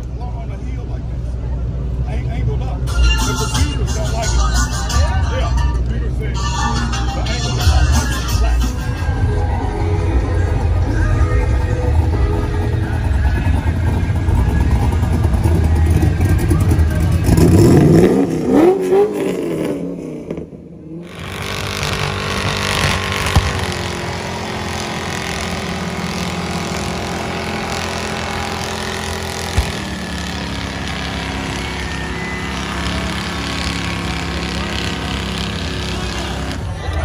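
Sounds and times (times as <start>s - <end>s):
truck engine revving: 6.4s - 37.0s.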